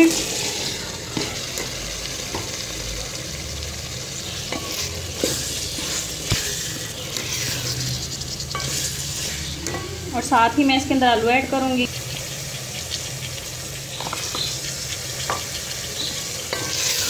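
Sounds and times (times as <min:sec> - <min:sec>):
peppers sizzling in hot oil: 0:00.0 - 0:17.0.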